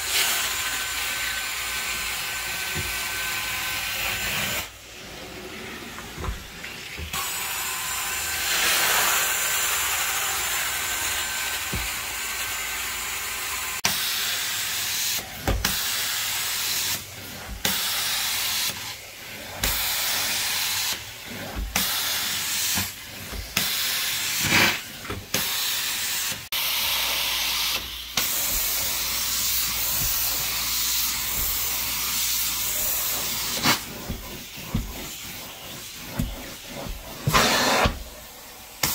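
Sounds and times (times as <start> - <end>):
carpet extractor hiss: 7.0 - 38.9.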